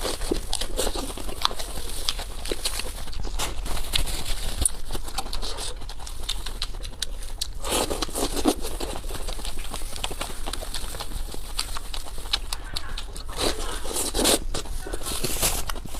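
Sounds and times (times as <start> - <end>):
crunchy chewing: 0.0 - 15.9
packet rustling and tearing: 0.0 - 15.9.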